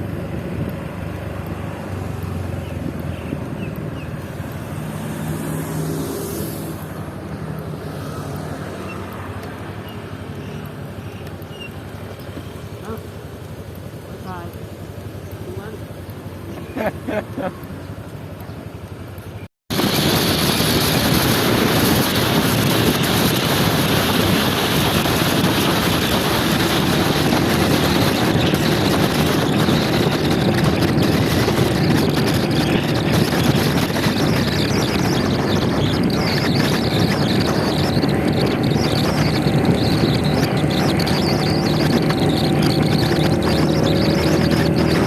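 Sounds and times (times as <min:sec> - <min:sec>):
wind rushing over microphone: 0:00.0 - 0:13.0, 0:19.7 - 0:45.0
motor scooter engine drone: 0:00.0 - 0:45.0.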